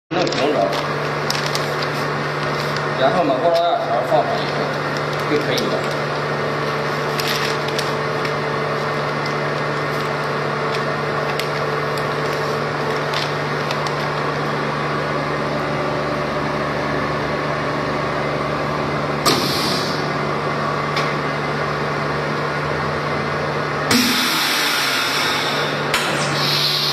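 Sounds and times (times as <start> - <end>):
vacuum pump humming: 0.1 - 26.9.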